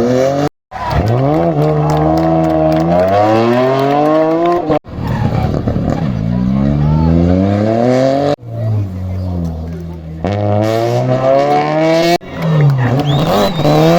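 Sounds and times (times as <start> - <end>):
rally car engine accelerating: 0.0 - 13.9.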